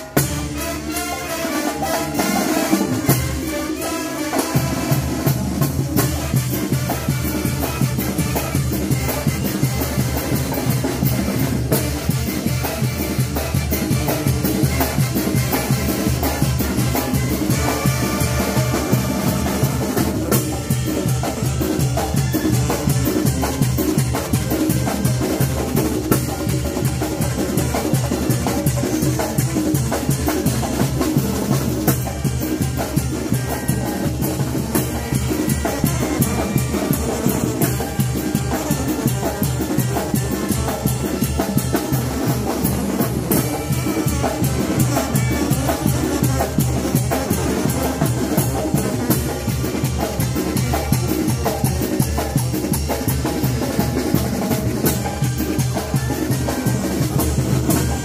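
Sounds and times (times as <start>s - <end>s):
brass band music: 0.0s - 58.0s
drums and cymbal: 0.0s - 58.0s.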